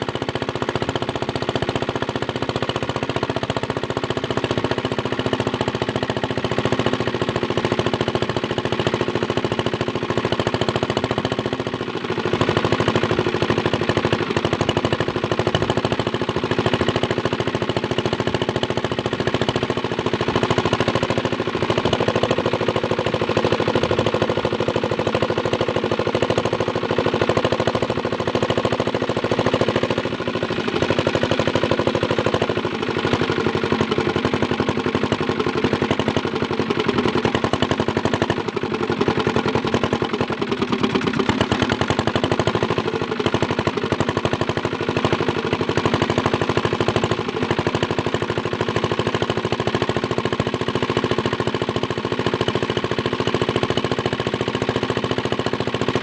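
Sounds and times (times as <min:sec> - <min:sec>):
small diesel engine knocking: 0:00.0 - 0:56.0.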